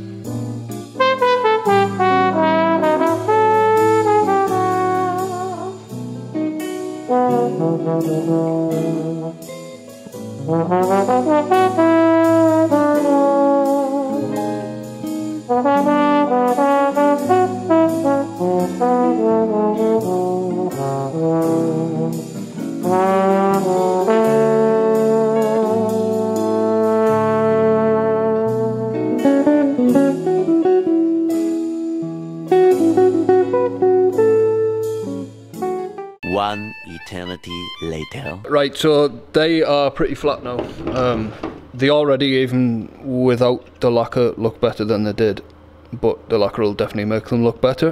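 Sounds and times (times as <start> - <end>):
jazzy brass tune over a beat: 0.0 - 38.7.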